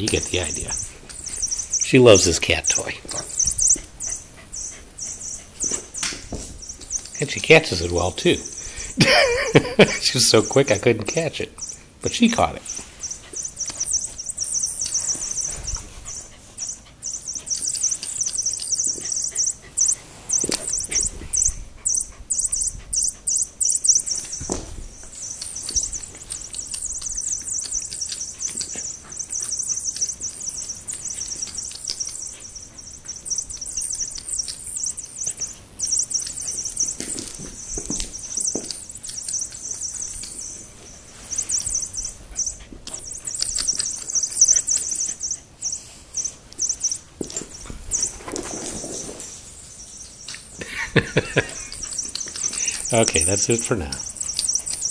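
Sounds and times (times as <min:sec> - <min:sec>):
squeaky toy squeaking: 0:00.0 - 0:08.7, 0:10.3 - 0:48.2.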